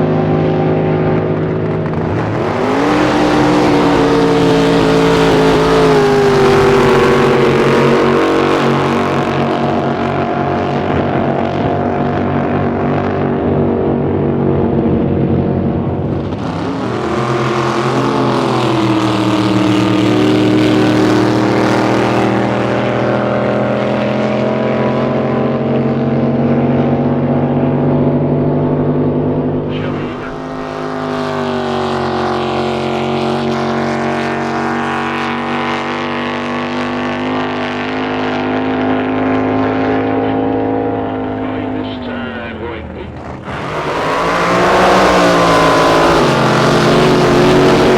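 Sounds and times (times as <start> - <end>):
boat engine running low: 0.0 - 47.9.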